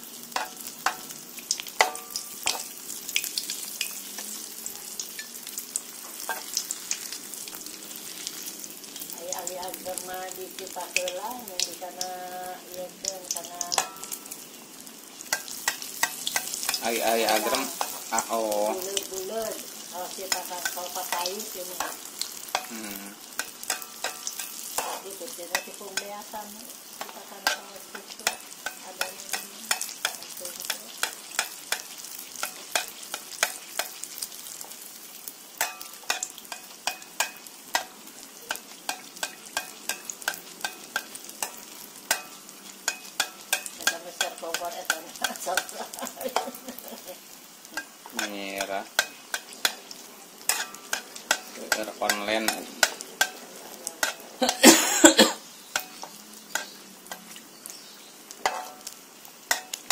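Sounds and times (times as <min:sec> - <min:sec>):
batter sizzling in hot oil: 0:00.0 - 0:59.9.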